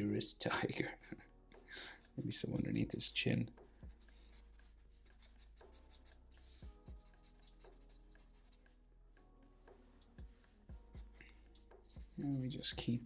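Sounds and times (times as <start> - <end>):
marker scratching on paper: 1.6 - 3.0, 3.6 - 13.0.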